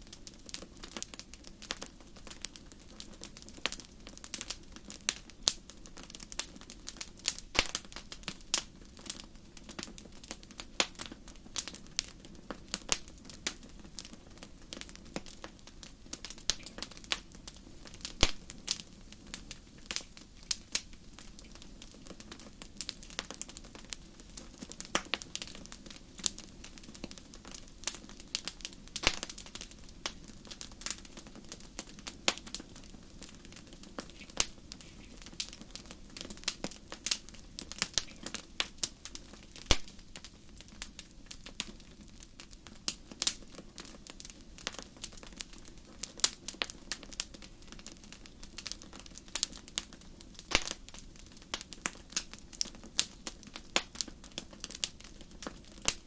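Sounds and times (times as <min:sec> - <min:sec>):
fire pops and snaps: 0:00.0 - 0:56.0
low rumble of flames: 0:00.0 - 0:56.0.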